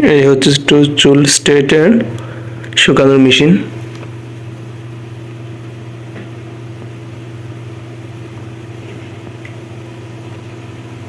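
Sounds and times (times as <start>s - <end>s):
low machine hum with hiss: 0.0s - 11.0s.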